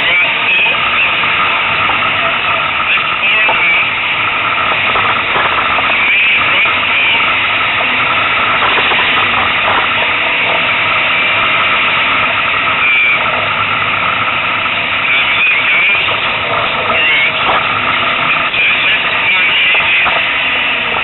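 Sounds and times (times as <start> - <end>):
car engine running hard: 0.0 - 21.0
road noise: 0.0 - 21.0.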